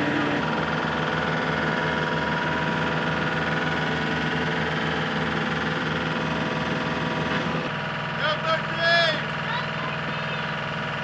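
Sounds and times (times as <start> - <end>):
hydraulic whine: 0.0 - 11.0
truck engine pulsing hum: 0.0 - 11.0.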